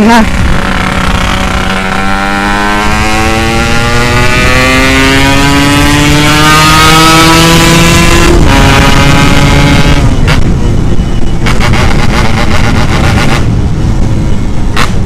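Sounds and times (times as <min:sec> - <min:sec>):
two-stroke motorcycle engine accelerating: 0:00.0 - 0:10.5, 0:11.4 - 0:13.5.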